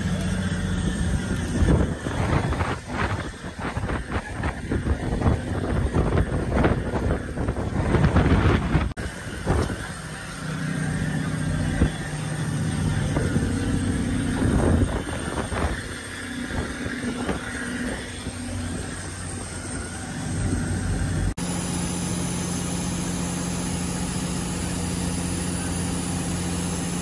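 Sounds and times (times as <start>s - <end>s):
boat engine humming: 0.0s - 27.0s.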